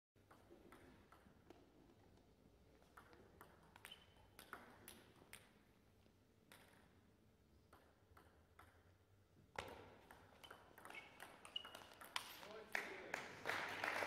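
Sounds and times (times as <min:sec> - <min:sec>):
table tennis ball bouncing: 0:00.2 - 0:05.7, 0:06.4 - 0:12.6.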